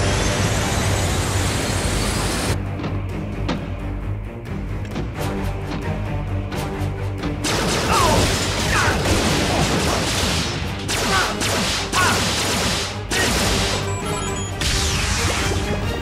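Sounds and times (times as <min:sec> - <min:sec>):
dramatic score music: 0:00.0 - 0:16.0.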